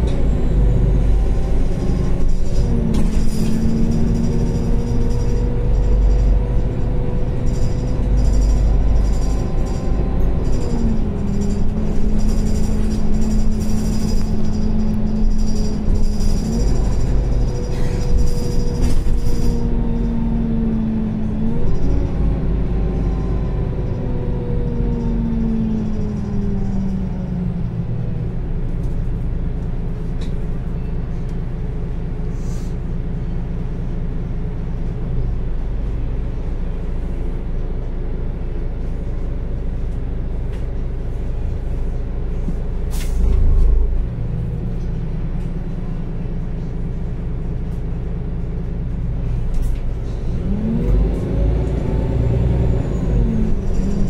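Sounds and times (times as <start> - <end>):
bus drivetrain hum: 0.0 - 54.0.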